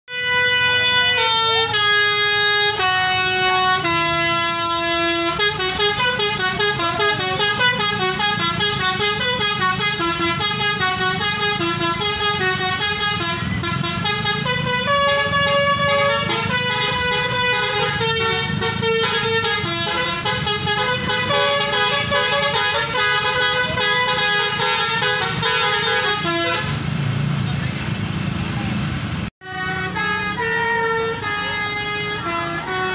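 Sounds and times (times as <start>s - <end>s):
musical air horn tune: 0.1s - 26.8s, 29.4s - 32.9s
engine and traffic rumble: 0.1s - 32.9s.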